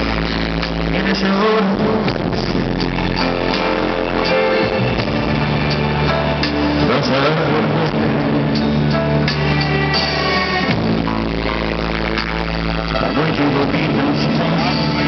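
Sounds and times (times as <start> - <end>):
acoustic guitar: 0.0 - 15.0
live band instrumental music: 0.0 - 15.0.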